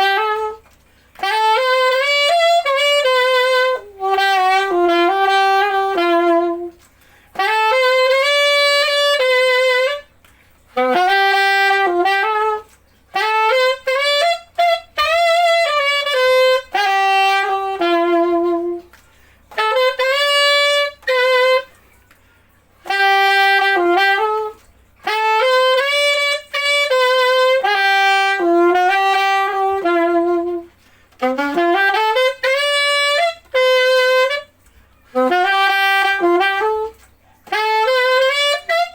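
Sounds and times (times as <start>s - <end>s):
solo alto saxophone: 0.0s - 38.9s.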